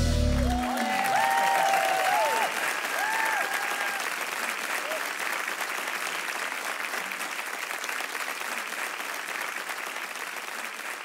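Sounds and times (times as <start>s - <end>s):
audience applauding: 0.1s - 11.0s.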